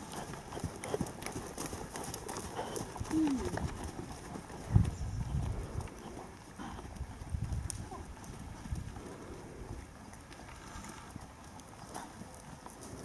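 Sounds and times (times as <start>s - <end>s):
horse hoofbeats on sand: 0.0s - 13.0s.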